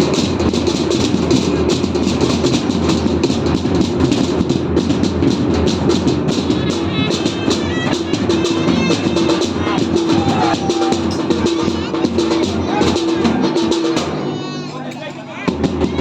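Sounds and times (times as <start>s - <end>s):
fast continuous drumming: 0.0s - 16.0s.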